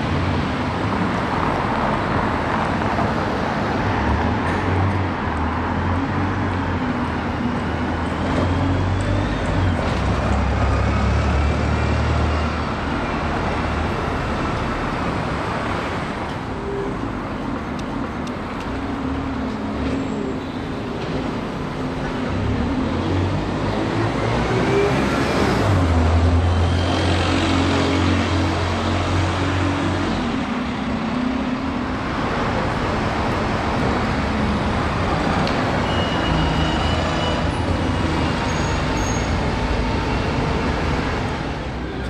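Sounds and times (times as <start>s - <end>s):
road noise from passing cars: 0.0s - 42.0s
bus diesel engine pulling away: 5.7s - 17.0s, 19.0s - 42.0s.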